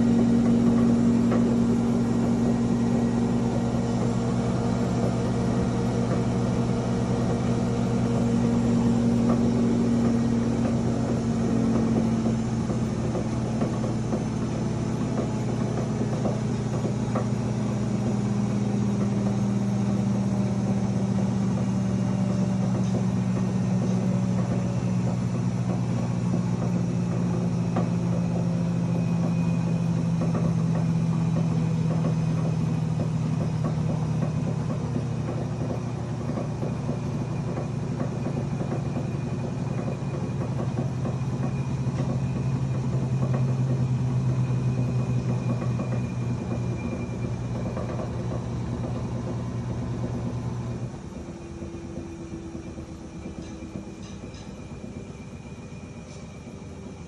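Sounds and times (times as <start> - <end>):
washer motor hum: 0.0 - 57.0.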